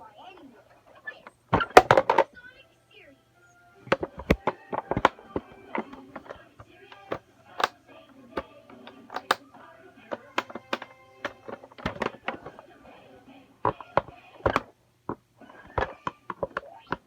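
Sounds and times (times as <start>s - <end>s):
toys clicking and knocking: 0.7s - 2.4s, 3.9s - 12.8s, 13.6s - 17.0s.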